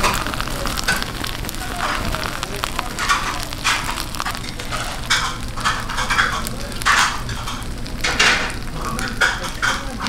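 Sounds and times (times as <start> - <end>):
fire crackling: 0.0 - 10.0
fish sizzling on grill: 0.0 - 10.0.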